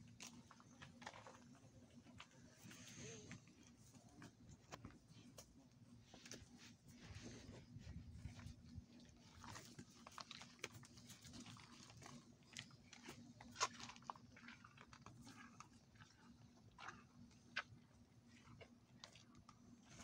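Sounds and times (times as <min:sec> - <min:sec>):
calves chewing and snuffling: 0:00.0 - 0:20.0.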